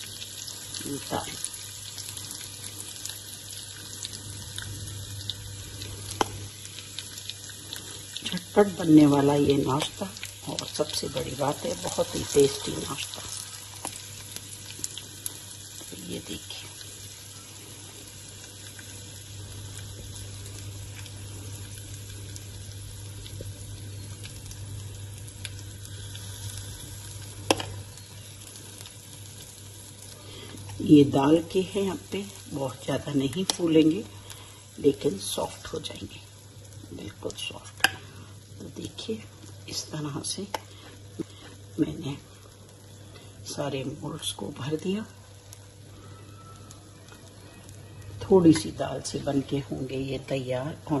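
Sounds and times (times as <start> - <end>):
small crackles: 0.0 - 8.8, 9.6 - 43.5, 44.6 - 49.6
steady low hum: 0.0 - 46.1
batter sizzling in a pan: 0.0 - 51.0.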